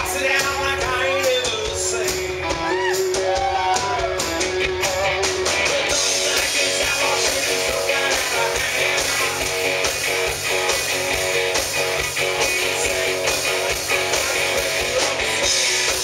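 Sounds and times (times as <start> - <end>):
electric guitar bending notes: 0.0 - 16.0
live rock band playing: 0.0 - 16.0.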